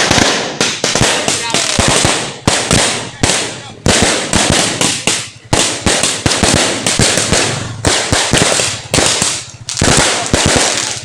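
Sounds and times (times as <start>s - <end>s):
firecrackers banging and crackling: 0.0s - 11.0s.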